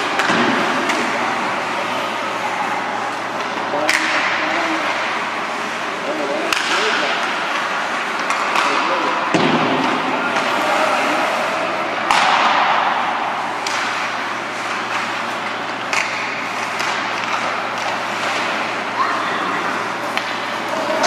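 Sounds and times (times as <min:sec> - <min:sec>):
hockey sticks and puck clacking: 0:00.0 - 0:01.8, 0:03.1 - 0:05.6, 0:06.4 - 0:21.0.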